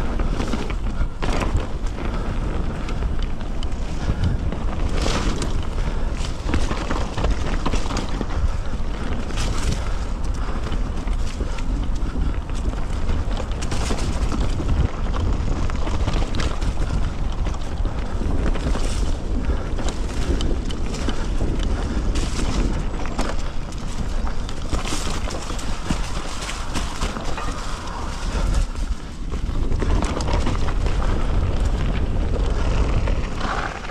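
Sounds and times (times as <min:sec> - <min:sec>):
mountain bike rattling: 0:00.0 - 0:33.9
tyres on dirt: 0:00.0 - 0:33.9
wind on camera microphone: 0:00.0 - 0:33.9.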